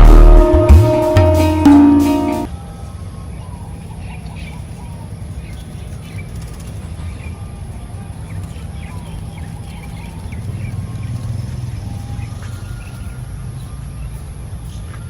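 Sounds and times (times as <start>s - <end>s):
whistled bird notes: 0.0s - 15.0s
songbirds chirping: 2.2s - 15.0s.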